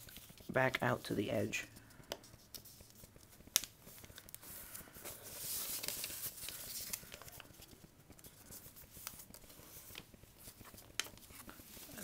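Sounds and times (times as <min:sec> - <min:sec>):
paper rustling and crinkling: 0:00.0 - 0:01.1, 0:01.7 - 0:12.0.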